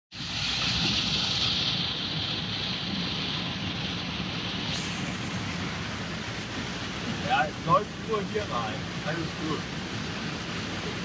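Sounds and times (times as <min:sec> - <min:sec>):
engine rumbling: 0:00.1 - 0:11.0
rain hissing on wet road: 0:00.2 - 0:11.0.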